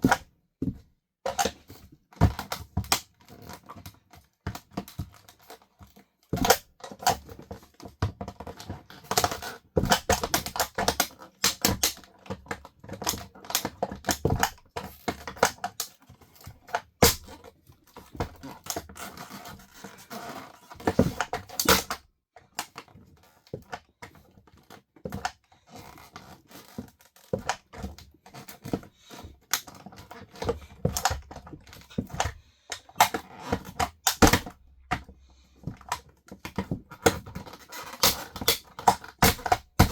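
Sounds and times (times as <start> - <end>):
plastic toy cracking underfoot: 6.3 - 39.9.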